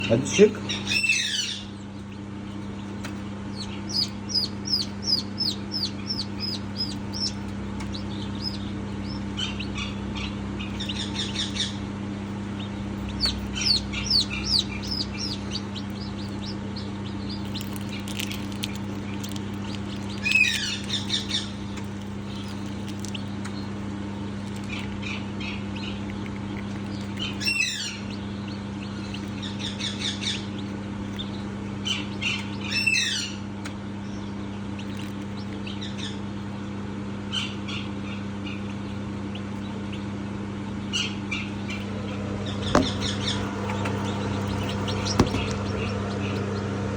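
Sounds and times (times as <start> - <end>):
chick peeping: 0.0 - 46.9
steady low hum: 0.0 - 46.9.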